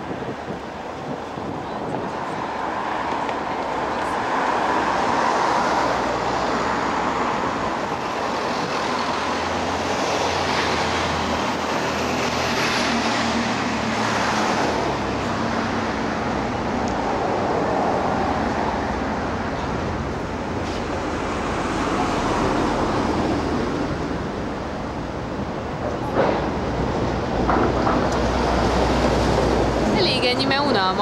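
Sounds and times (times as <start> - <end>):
cars rushing past: 0.0 - 31.0.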